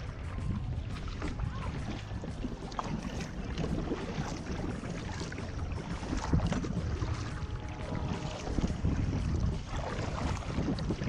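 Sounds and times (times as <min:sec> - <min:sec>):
paddle splashing in water: 0:00.0 - 0:11.0
steady low rumble: 0:00.0 - 0:11.0.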